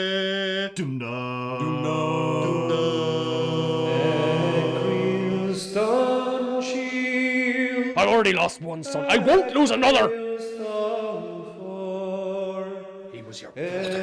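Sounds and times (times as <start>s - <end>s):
men singing in harmony: 0.0s - 14.0s.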